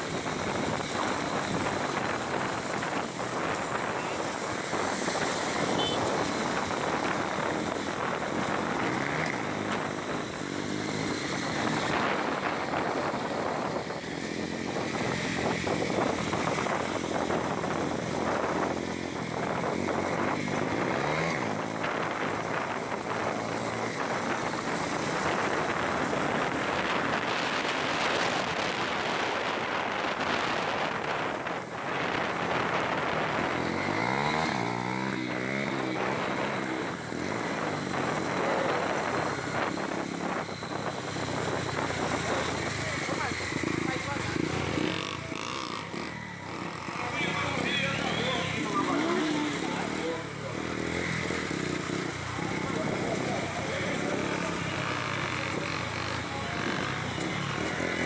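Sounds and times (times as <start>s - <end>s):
wind and road noise: 0.0s - 58.0s
motorcycle engine accelerating: 0.1s - 58.0s.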